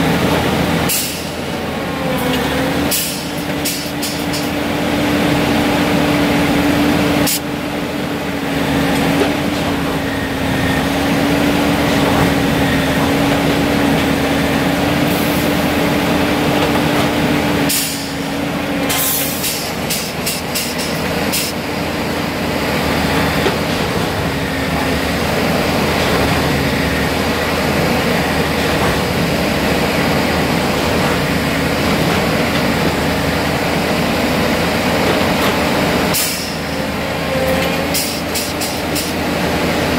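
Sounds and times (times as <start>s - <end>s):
track machine engine drone: 0.0s - 39.9s.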